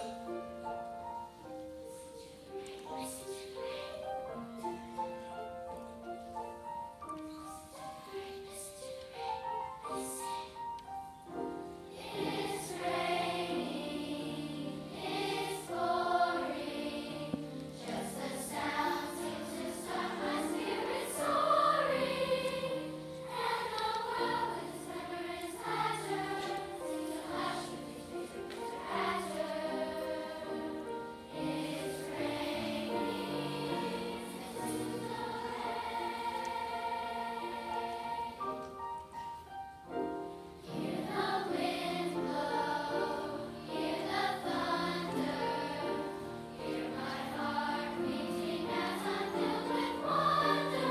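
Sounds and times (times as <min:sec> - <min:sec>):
choir singing: 0:00.0 - 0:00.4, 0:01.9 - 0:05.2, 0:07.6 - 0:39.1, 0:40.5 - 0:50.9
piano accompaniment: 0:00.0 - 0:50.9.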